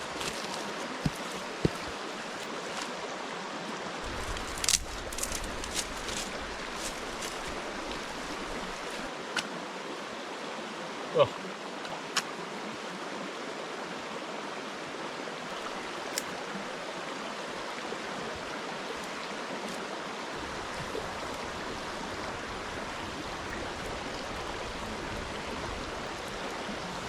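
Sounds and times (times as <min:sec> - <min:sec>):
flowing river water: 0:00.0 - 0:27.0.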